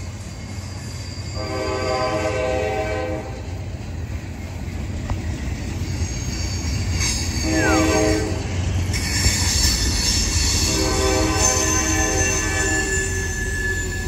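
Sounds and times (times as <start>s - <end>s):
train cars rumbling past: 0.0s - 14.0s
train wheels squealing: 0.0s - 14.0s.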